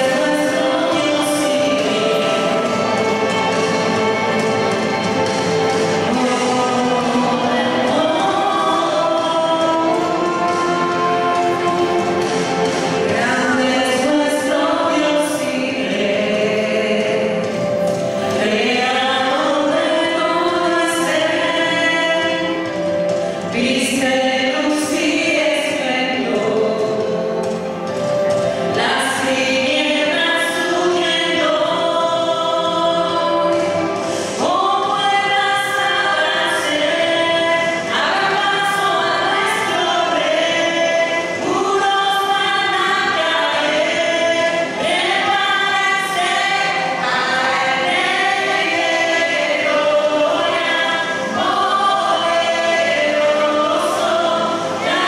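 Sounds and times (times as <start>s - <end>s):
accompanying music: 0.0s - 55.0s
women singing worship song: 0.0s - 55.0s.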